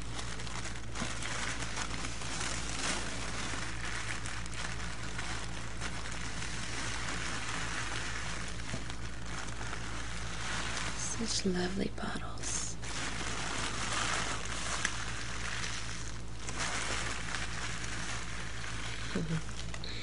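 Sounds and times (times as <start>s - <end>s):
wrapping paper rustling: 0.0s - 20.0s.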